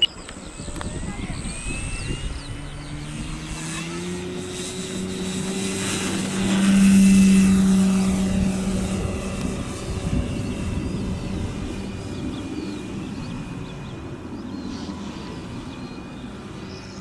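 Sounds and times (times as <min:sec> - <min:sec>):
model plane motor humming: 0:00.0 - 0:17.0.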